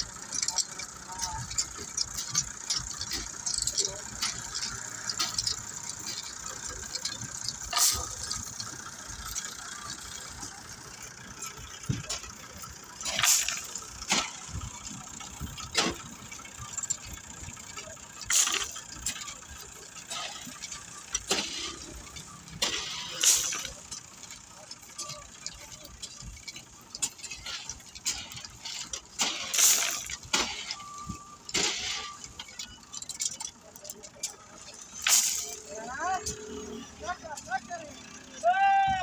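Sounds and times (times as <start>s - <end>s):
tractor engine hissing: 0.0s - 38.8s.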